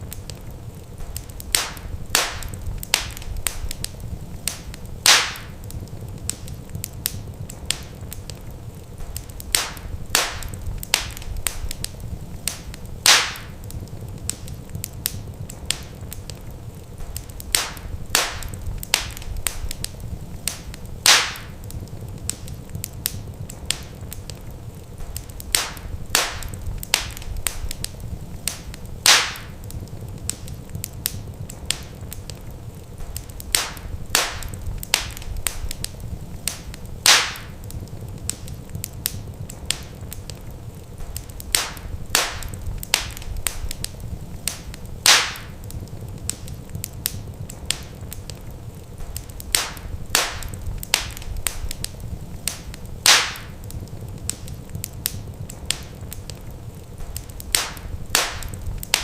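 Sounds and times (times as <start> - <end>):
steady low rumble: 0.0 - 59.0
wood fire crackling: 0.0 - 59.0.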